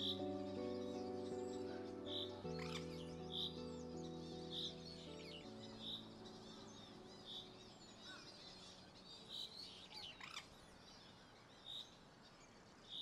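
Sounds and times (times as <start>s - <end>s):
birdsong: 0.0s - 13.0s.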